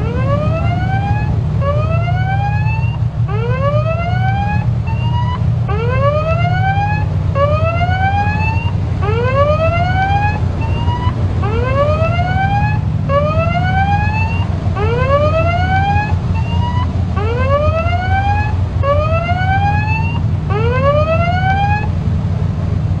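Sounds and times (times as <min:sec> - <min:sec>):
electronic siren wailing: 0:00.0 - 0:21.9
low engine rumble: 0:00.0 - 0:23.0
wind: 0:00.0 - 0:23.0.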